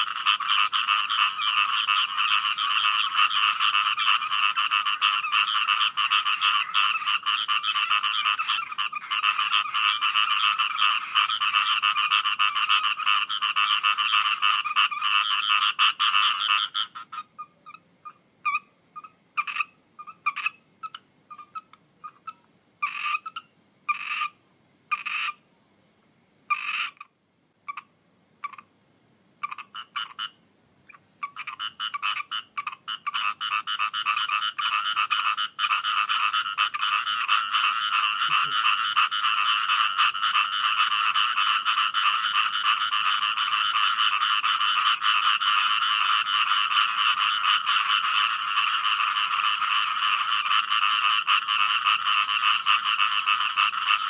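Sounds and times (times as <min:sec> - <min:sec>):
chorus of frogs croaking: 0:00.0 - 0:54.0
single frog calls: 0:00.0 - 0:54.0.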